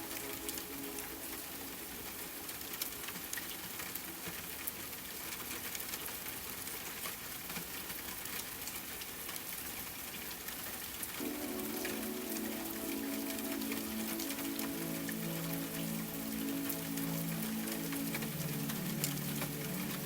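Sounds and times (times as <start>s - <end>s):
rain falling: 0.0s - 20.0s
raindrops ticking: 0.0s - 20.0s.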